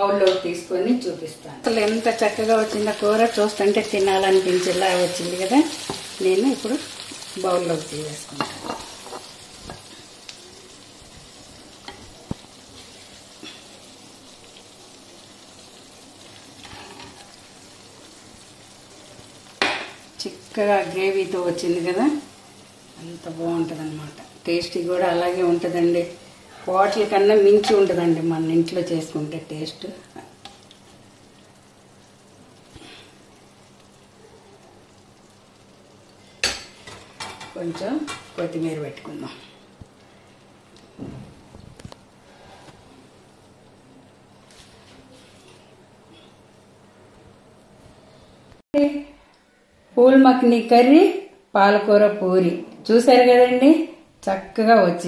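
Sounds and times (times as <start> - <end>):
faint sizzle from hot pan: 0.0 - 55.0.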